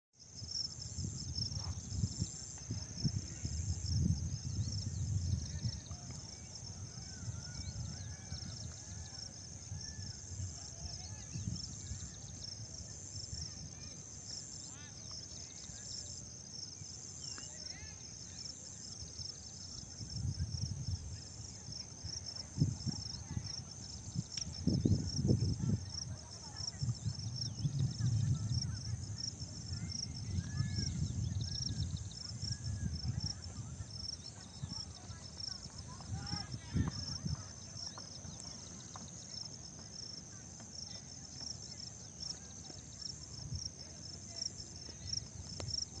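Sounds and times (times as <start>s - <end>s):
insects trilling: 0.3s - 46.0s.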